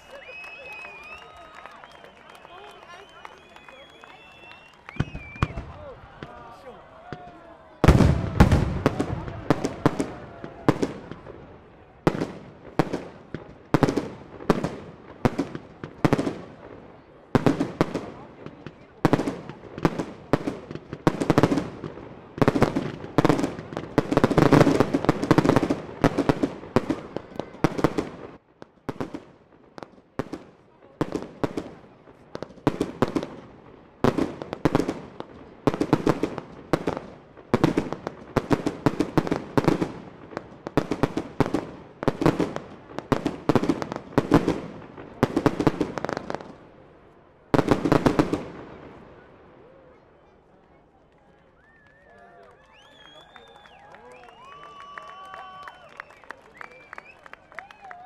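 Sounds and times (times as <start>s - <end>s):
fireworks launches and bursts: 0.0s - 50.0s.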